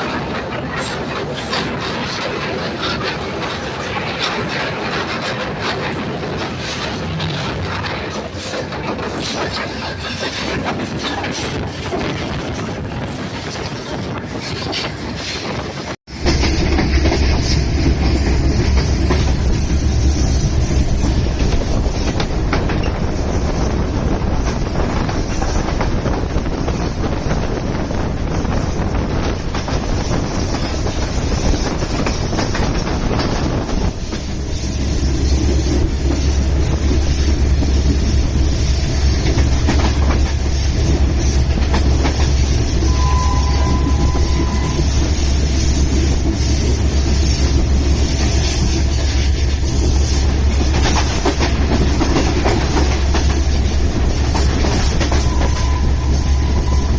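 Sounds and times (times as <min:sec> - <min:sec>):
train rumbling along track: 0:00.0 - 0:56.9
wheels clacking over rail joints: 0:00.0 - 0:56.9.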